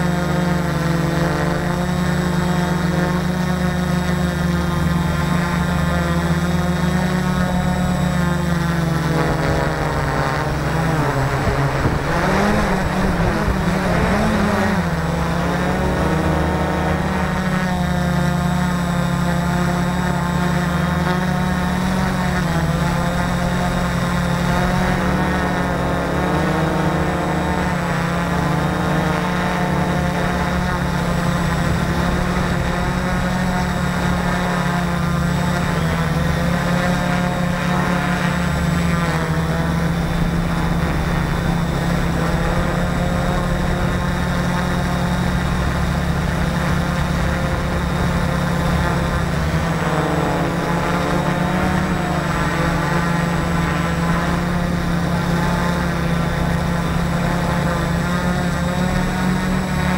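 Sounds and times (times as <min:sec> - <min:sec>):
drone motors buzzing whine: 0:00.0 - 0:59.9.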